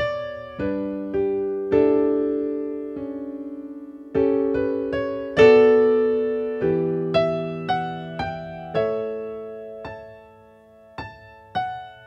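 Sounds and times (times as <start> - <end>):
slow solo piano: 0.0 - 12.0.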